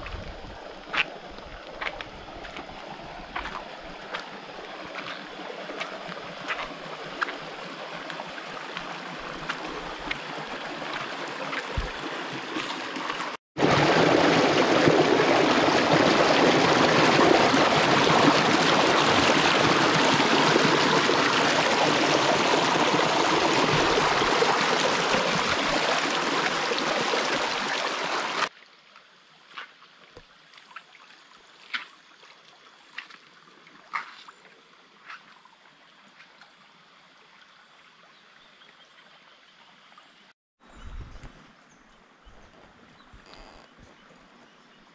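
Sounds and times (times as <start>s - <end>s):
creek water babbling over rocks: 0.0s - 36.0s.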